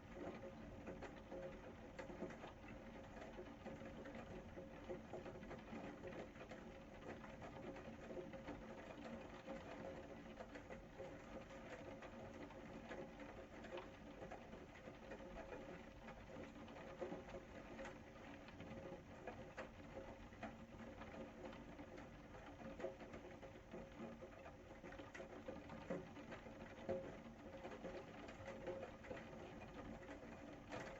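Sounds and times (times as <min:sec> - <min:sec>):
rain pattering: 0:00.0 - 0:30.9.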